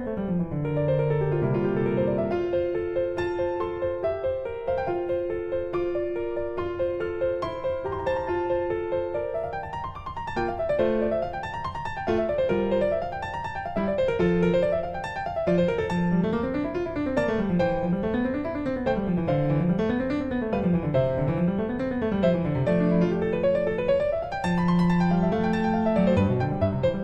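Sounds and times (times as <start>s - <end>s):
piano arpeggios: 0.0s - 27.0s.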